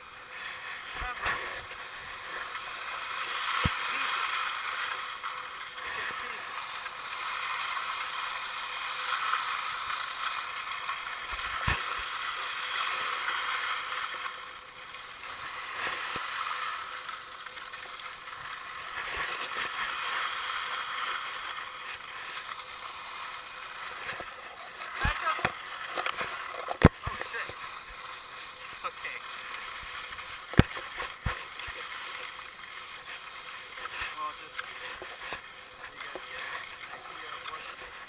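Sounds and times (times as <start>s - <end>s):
skis scraping on snow: 0.0s - 38.0s.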